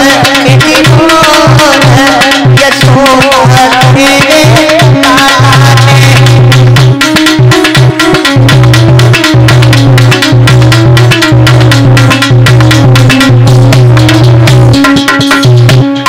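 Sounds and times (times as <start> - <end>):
hand drum beat: 0.0 - 16.0
ornamented melody: 0.0 - 16.0.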